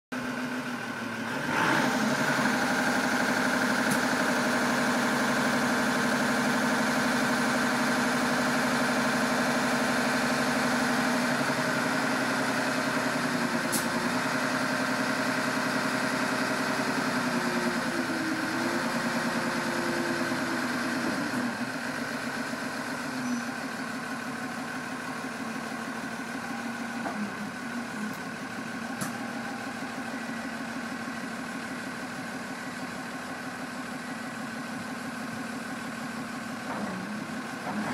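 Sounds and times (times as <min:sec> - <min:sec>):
forklift diesel engine running: 0:00.1 - 0:37.9.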